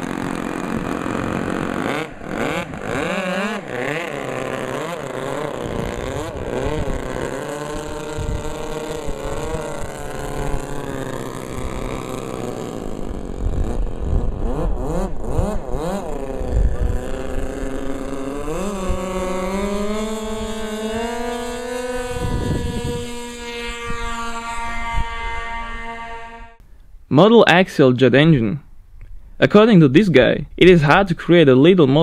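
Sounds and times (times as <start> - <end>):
model plane engines revving: 0.0 - 26.6.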